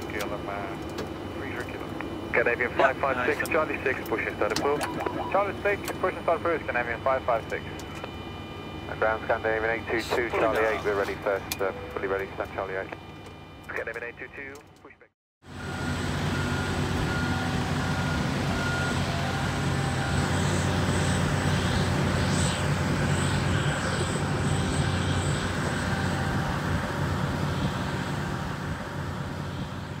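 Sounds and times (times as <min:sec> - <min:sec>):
machinery drone: 0:00.1 - 0:13.6, 0:15.5 - 0:30.0.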